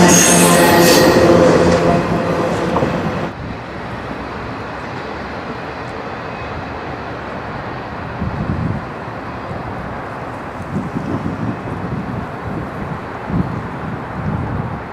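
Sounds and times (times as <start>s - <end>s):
freight train wheels on rails: 0.0s - 14.9s.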